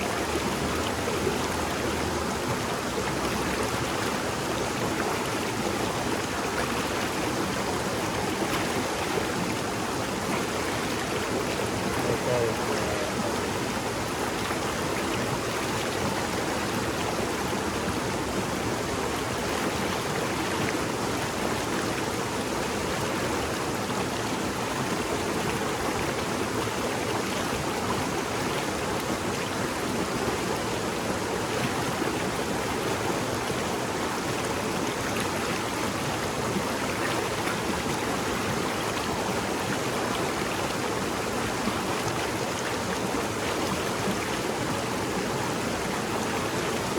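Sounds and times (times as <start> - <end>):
stream babbling: 0.0 - 46.9.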